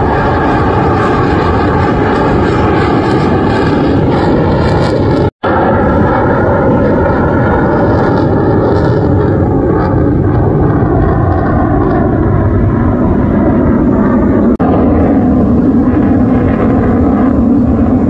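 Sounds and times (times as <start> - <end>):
fighter jet flying past: 0.0 - 18.0
low hum: 0.0 - 18.0.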